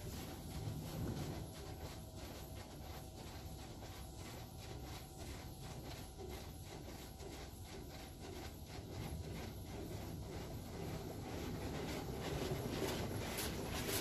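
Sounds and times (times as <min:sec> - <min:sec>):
water spray pulsing on car: 0:00.0 - 0:14.0.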